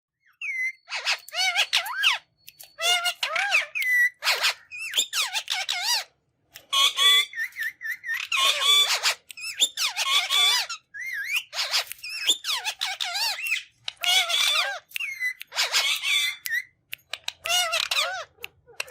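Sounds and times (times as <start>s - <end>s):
parrot calling: 0.3s - 6.1s, 6.7s - 18.9s.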